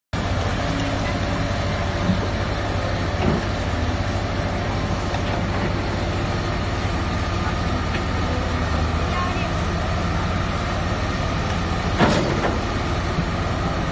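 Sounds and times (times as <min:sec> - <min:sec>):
diesel engine rumbling: 0:00.1 - 0:13.9
engine knocks: 0:00.4 - 0:08.4, 0:10.0 - 0:13.9.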